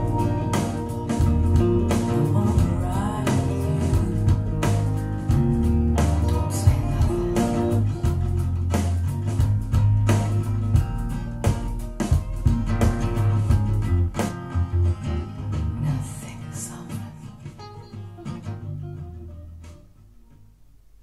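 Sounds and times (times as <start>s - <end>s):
pop-rock song with guitar: 0.0s - 19.9s.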